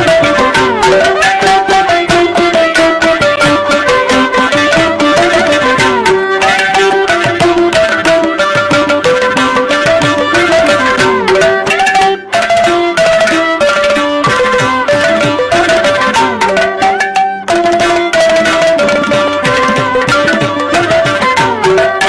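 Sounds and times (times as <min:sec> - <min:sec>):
instrumental music with hand drums: 0:00.0 - 0:22.0.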